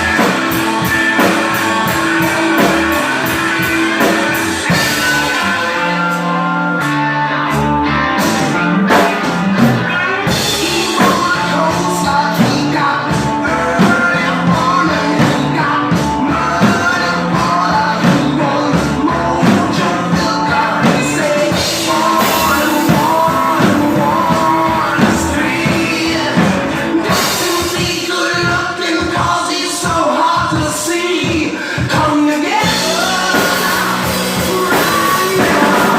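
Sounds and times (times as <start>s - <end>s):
rock music with singer: 0.0s - 35.9s.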